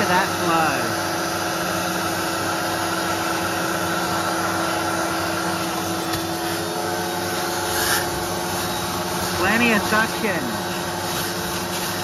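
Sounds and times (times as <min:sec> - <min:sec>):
vacuum motors droning: 0:00.0 - 0:12.0.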